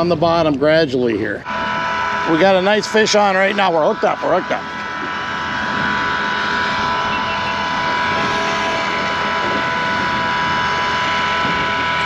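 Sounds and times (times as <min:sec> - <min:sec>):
fishing reel motor whine: 0:01.4 - 0:12.0.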